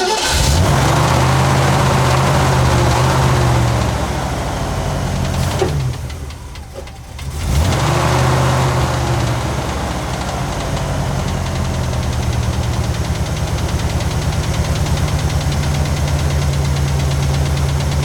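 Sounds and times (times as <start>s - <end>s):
truck engine running rough: 0.0s - 18.0s.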